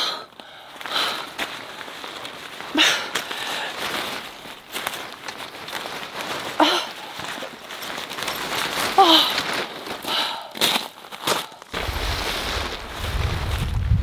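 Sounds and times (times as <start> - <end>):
tent fabric rustling: 0.2 - 14.0
footsteps on gravel: 0.9 - 14.0.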